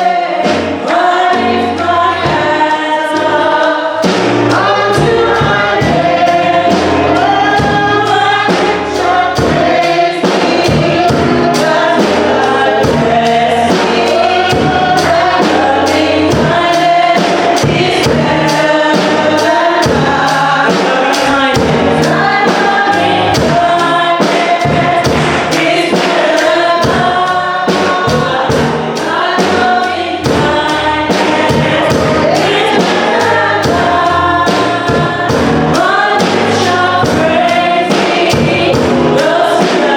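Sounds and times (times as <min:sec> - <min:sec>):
gospel choir singing: 0:00.0 - 0:39.9
musical accompaniment with beat: 0:00.0 - 0:39.9.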